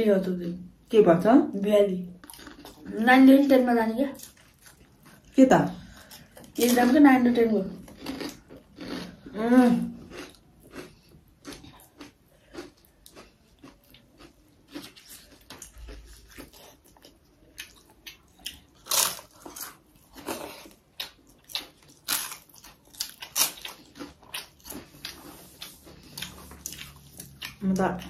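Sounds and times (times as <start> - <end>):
person chewing food: 2.2 - 3.0, 4.2 - 6.7, 7.8 - 28.0.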